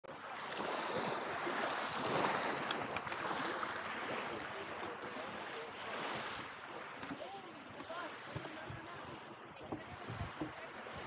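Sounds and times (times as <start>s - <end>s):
waves lapping on pebble shore: 0.1s - 11.0s.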